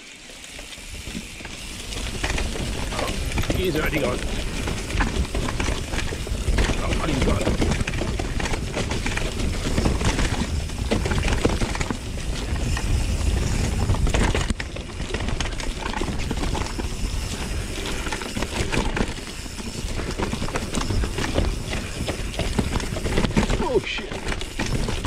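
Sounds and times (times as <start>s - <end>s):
bike tyres on loose dirt: 0.0s - 25.0s
bike rattling and knocking: 0.5s - 25.0s.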